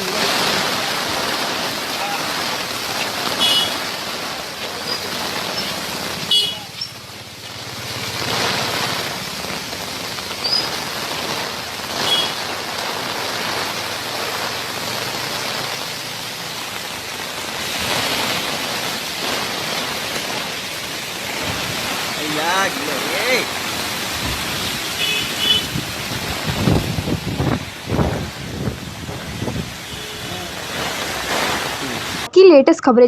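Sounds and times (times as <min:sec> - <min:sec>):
heavy rain pouring: 0:00.0 - 0:32.3
street traffic: 0:00.0 - 0:33.0.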